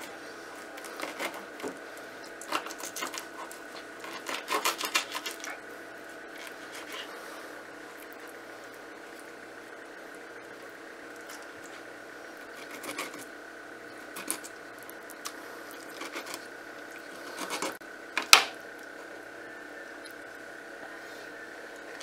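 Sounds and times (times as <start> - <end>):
background hum with high tone: 0.0 - 22.0.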